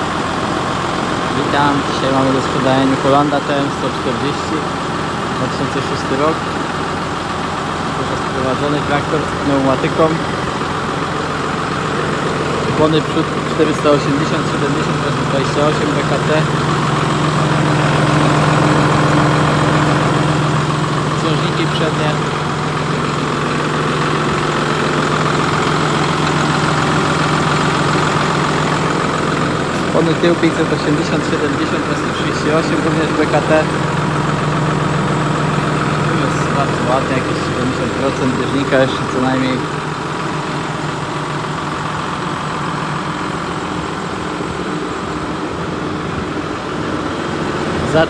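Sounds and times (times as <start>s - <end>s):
tractor diesel engine idling: 0.0s - 48.0s.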